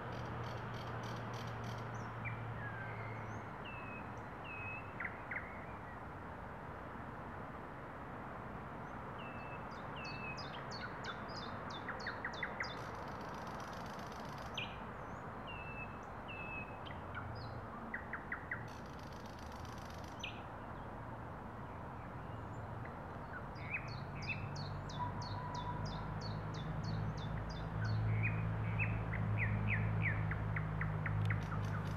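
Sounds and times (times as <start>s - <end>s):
bird singing: 0.0s - 6.0s, 9.2s - 20.9s, 22.0s - 31.9s.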